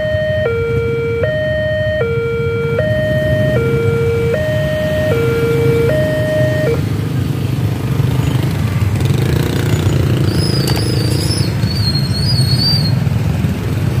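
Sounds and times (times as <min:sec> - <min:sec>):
motorcycles and scooters rumbling: 0:00.0 - 0:14.0.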